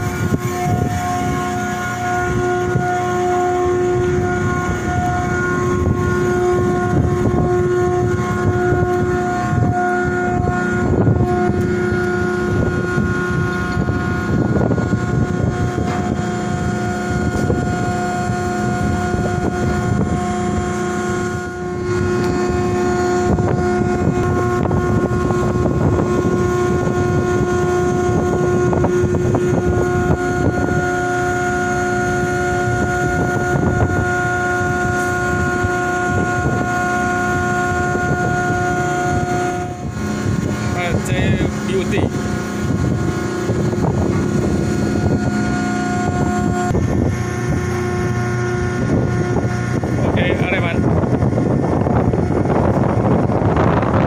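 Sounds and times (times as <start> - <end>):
ship engine machinery drone: 0.0 - 54.0
steady machinery whine: 0.0 - 54.0
wind buffeting microphone: 0.0 - 54.0.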